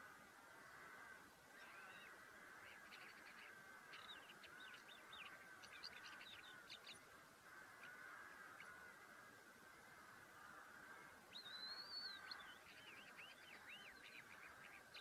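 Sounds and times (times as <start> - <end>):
faint steady hiss: 0.0 - 15.0
birds chirping: 0.6 - 15.0.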